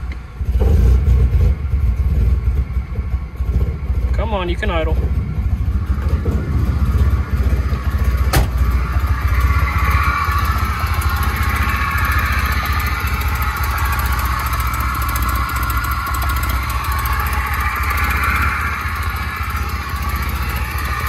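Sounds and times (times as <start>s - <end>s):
car engine idling roughly: 0.0s - 21.0s.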